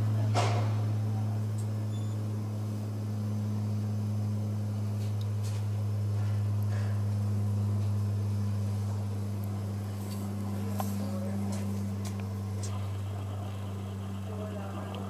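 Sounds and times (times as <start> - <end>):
faint higher hum: 0.0 - 15.0
loud low hum: 0.0 - 15.0.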